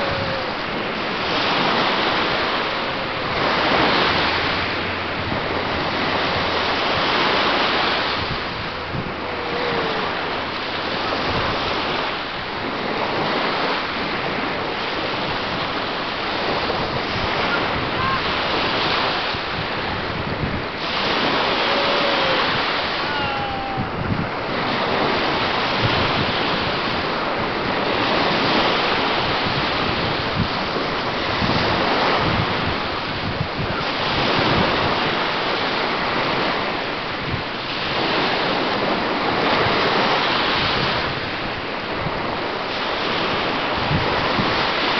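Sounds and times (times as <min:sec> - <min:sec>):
waves washing onto sandy beach: 0:00.0 - 0:44.9
wind buffeting microphone: 0:00.0 - 0:44.9.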